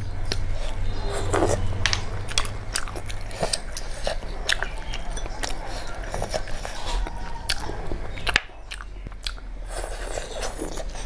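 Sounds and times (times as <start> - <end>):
wet chewing with clicks: 0.0 - 11.0.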